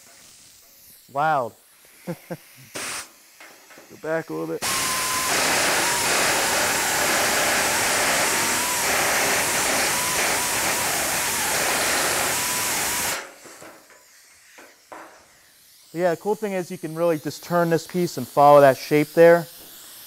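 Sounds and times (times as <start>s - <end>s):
pneumatic nibbler cutting steel: 1.8s - 20.0s.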